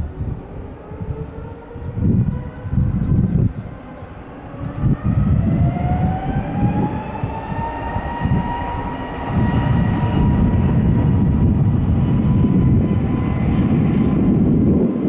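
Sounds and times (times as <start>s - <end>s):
jet engine low rumble: 0.0s - 15.0s
jet engine whine: 0.0s - 15.0s.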